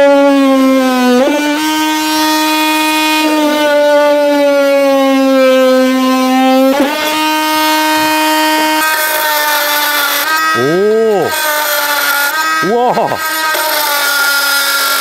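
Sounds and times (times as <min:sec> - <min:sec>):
oscillating multi-tool buzzing: 0:00.0 - 0:15.0.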